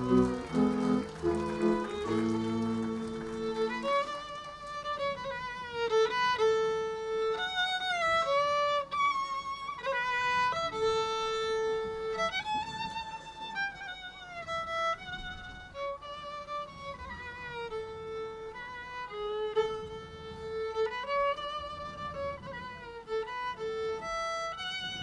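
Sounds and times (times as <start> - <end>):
fiddle playing folk melody: 0.0 - 25.0.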